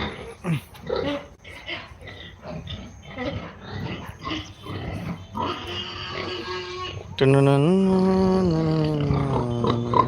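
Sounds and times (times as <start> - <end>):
pigs grunting: 0.0 - 7.2, 7.9 - 10.0.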